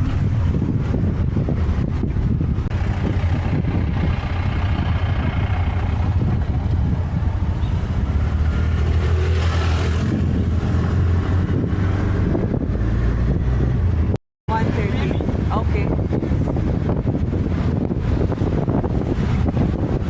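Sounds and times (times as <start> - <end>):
auto-rickshaw engine humming: 0.0 - 20.0
wind noise on microphone: 0.0 - 20.0.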